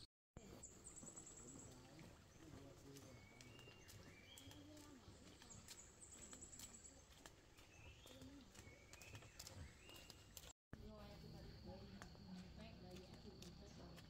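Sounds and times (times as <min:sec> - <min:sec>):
soft footsteps on dirt road: 0:00.4 - 0:14.0.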